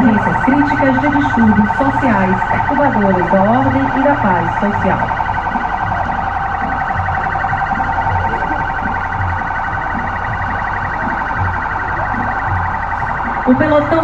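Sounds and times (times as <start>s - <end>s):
police siren warbling: 0.0s - 14.0s.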